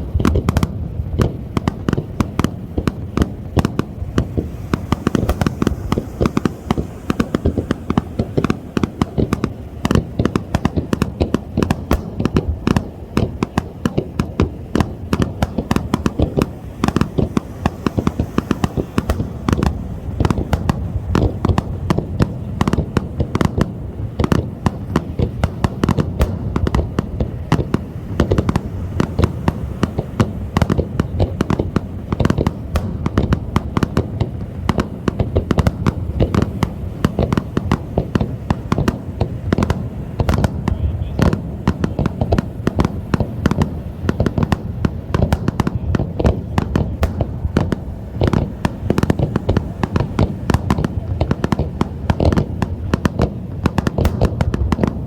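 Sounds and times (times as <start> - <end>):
fireworks bangs and crackling: 0.0 - 55.0
low rumble: 0.0 - 55.0.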